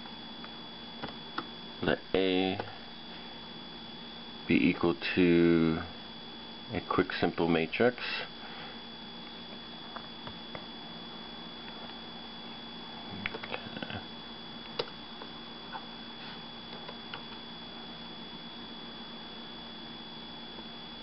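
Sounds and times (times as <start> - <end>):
faint high-pitched electrical whine: 0.0 - 21.0.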